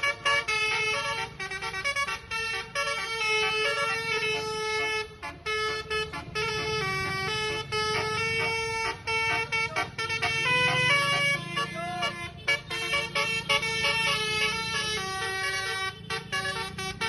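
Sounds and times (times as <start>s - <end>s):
bus air horns playing melody: 0.0s - 17.0s
bus engine running: 0.0s - 17.0s.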